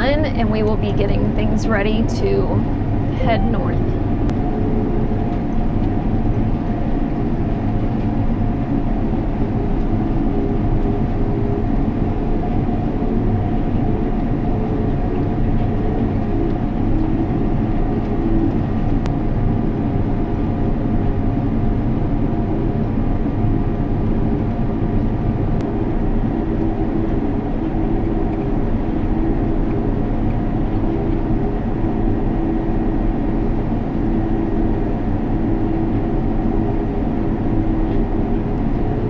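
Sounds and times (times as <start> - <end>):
heavy machinery diesel drone: 0.0 - 39.0.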